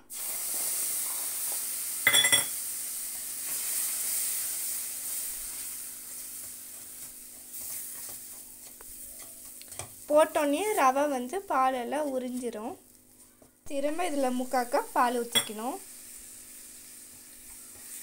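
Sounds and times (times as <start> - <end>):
milk sizzling in a hot pan: 0.0 - 18.0.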